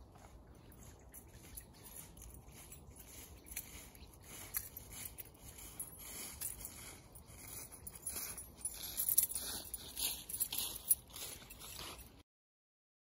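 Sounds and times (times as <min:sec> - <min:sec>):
footsteps crunching dry leaves: 0:00.0 - 0:12.2.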